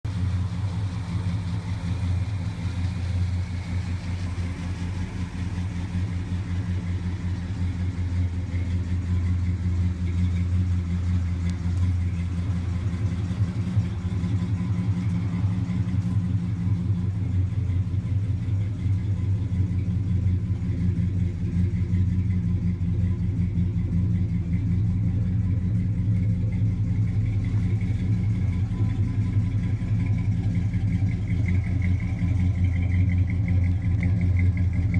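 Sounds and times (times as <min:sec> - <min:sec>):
car engine rumbling: 0:00.0 - 0:34.9.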